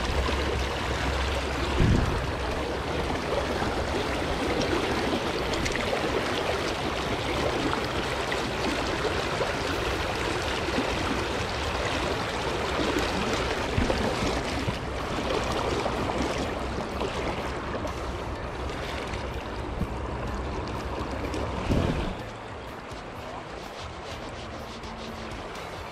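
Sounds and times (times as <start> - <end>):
river water flowing: 0.0 - 25.9.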